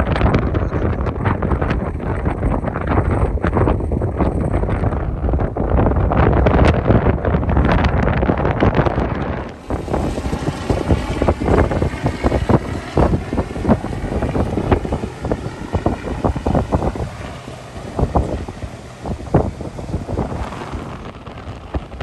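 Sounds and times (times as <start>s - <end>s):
helicopter flying overhead: 0.0s - 22.0s
wind buffeting microphone: 0.0s - 22.0s.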